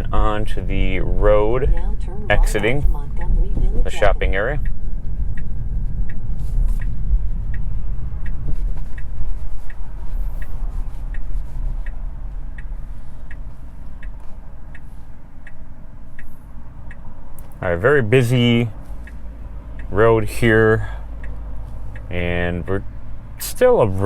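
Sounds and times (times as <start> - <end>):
road and tyre rumble: 0.0 - 24.0
turn signal ticking: 0.0 - 24.0.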